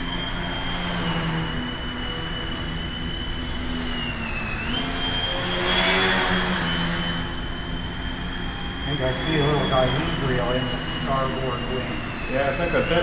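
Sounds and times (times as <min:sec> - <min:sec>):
model airplane motor whine: 0:00.0 - 0:13.0.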